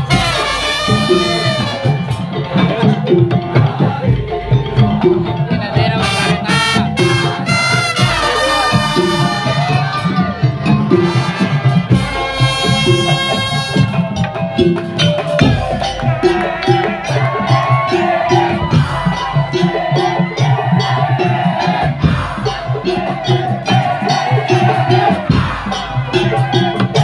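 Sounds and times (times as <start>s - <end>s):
drums and percussion beat: 0.0s - 27.0s
pitched melody: 0.0s - 27.0s.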